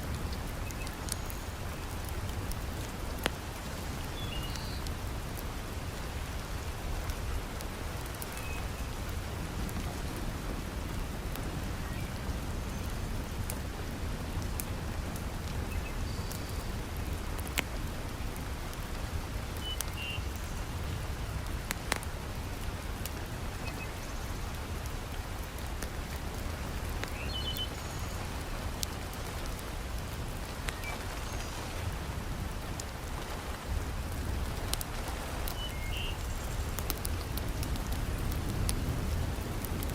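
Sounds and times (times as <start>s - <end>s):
heavy rain: 0.0s - 39.9s
wood fire crackling: 4.8s - 23.6s, 24.4s - 39.9s.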